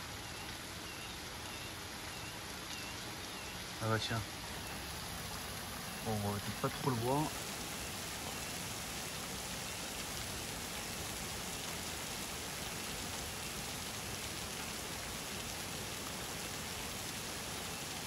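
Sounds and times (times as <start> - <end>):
rain pouring on roofs: 0.0 - 18.0.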